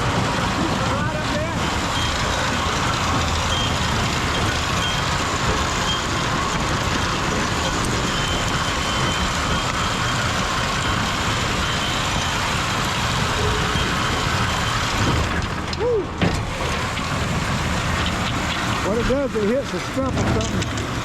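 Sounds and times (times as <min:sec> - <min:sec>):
conveyor carrying roots and dirt: 0:00.0 - 0:21.0
tractor diesel engine under load: 0:00.0 - 0:21.0.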